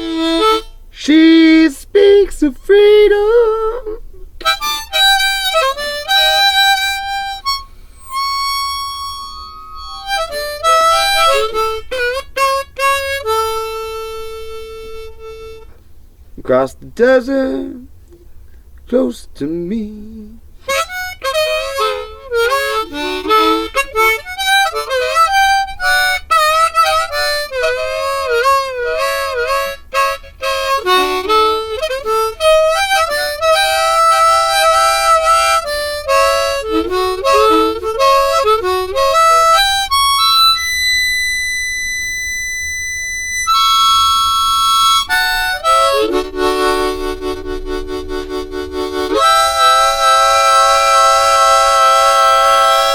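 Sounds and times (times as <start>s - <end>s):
harmonica solo: 0.0s - 52.9s.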